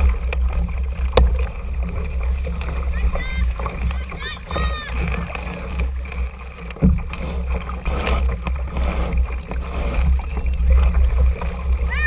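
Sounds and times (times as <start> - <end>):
water splashing against boat hull: 0.0 - 12.0.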